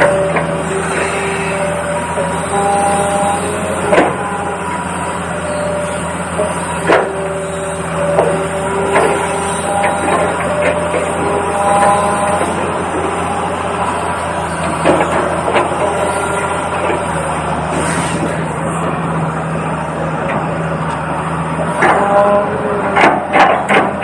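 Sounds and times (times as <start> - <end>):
steady hum: 0.0 - 23.3
small electric motors whining: 0.0 - 24.0.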